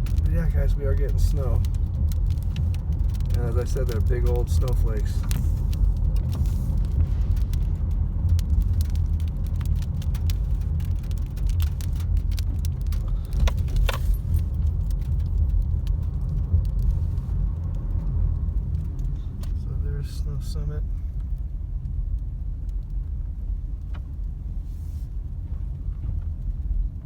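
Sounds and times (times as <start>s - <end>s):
light ticks and rattles: 0.0s - 27.0s
road and engine rumble: 0.0s - 27.0s.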